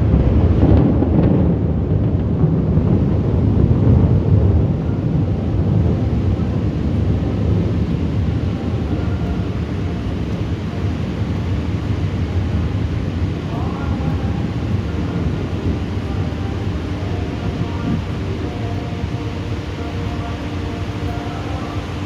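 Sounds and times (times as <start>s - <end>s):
rolling thunder: 0.0s - 22.0s.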